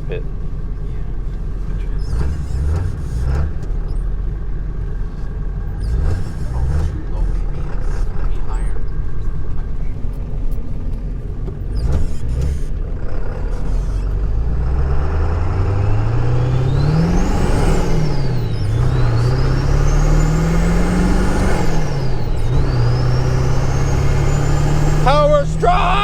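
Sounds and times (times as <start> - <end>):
diesel engine accelerating: 0.0 - 26.0.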